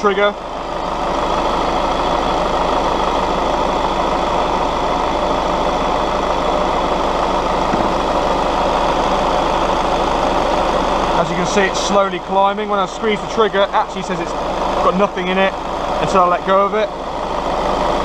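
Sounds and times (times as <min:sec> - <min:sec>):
air conditioning running: 0:00.0 - 0:18.0
diesel engine idling: 0:00.0 - 0:18.0.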